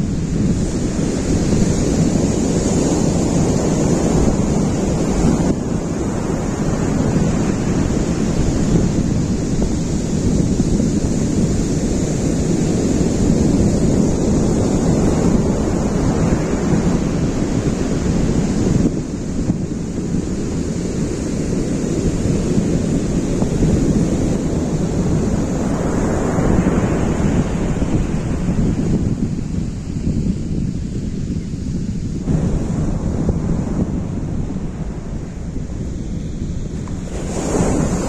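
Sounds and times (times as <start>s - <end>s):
sea surf washing ashore: 0.0s - 38.0s
wind buffeting microphone: 0.0s - 38.0s.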